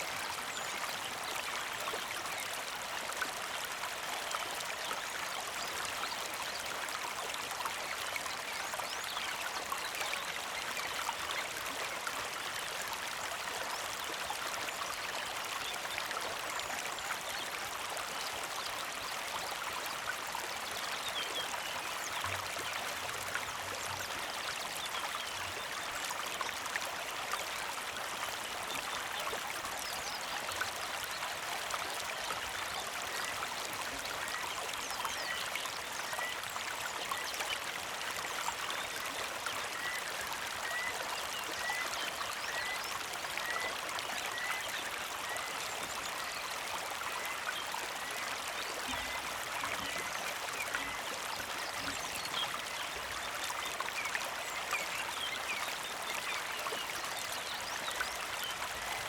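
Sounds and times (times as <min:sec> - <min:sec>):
creek trickling over stones: 0:00.0 - 0:59.0.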